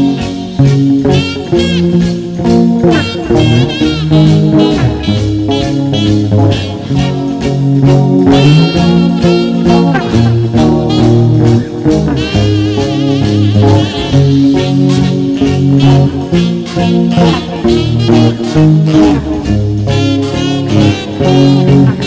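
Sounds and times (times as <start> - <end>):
bass and drums backing: 0.0 - 22.0
electric guitar: 0.0 - 22.0.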